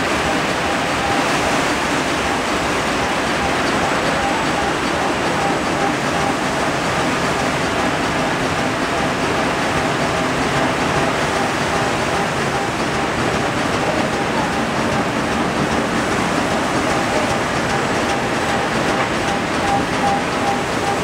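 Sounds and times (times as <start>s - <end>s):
machine mechanical clatter: 1.8s - 21.0s.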